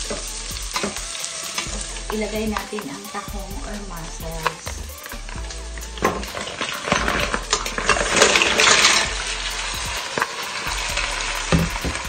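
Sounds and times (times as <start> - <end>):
mussels sizzling in oil: 0.0 - 12.0.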